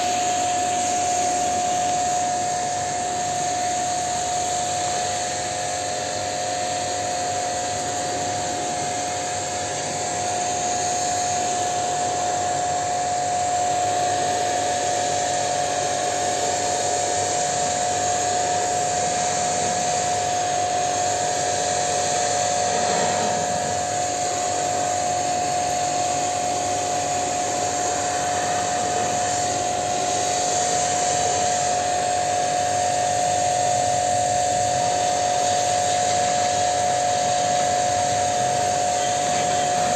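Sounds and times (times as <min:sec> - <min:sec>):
pressure washer motor whine: 0:00.0 - 0:39.9
water jet hissing: 0:00.0 - 0:39.9.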